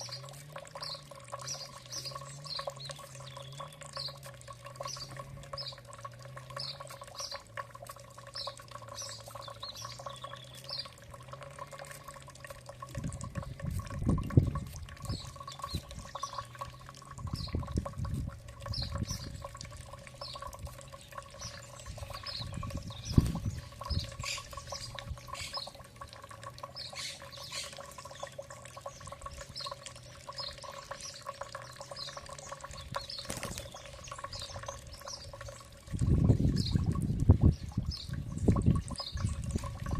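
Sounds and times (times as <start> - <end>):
small birds chirping: 0.0 - 12.2, 13.4 - 17.7, 18.6 - 25.9, 26.6 - 39.9.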